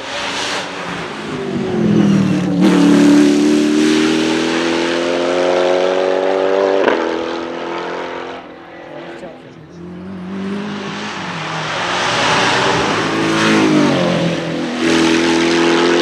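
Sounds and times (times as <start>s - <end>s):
race car engine accelerating: 0.0s - 16.0s.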